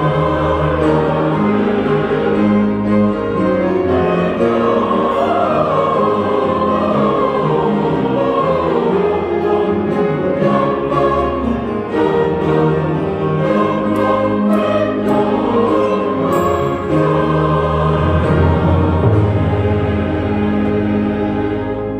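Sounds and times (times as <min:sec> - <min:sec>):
choir singing a carol: 0:00.0 - 0:21.9
orchestra strings and percussion: 0:00.0 - 0:21.9.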